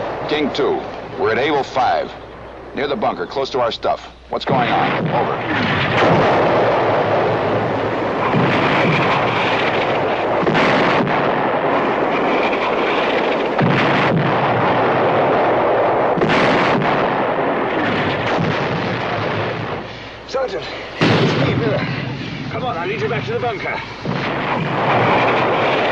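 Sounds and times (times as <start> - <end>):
heavy rumble: 0.0 - 25.9
shells exploding: 4.5 - 25.9.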